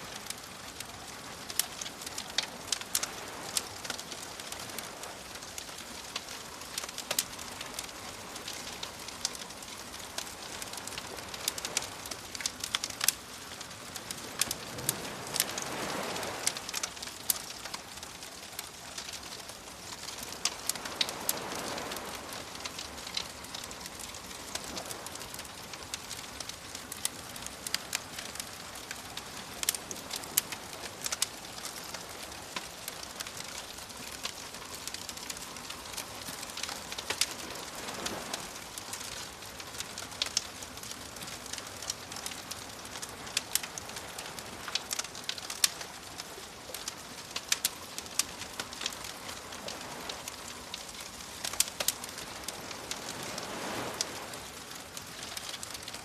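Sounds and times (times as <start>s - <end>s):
waves washing: 0.0s - 41.1s, 47.2s - 56.0s
wood fire crackling: 0.0s - 56.0s.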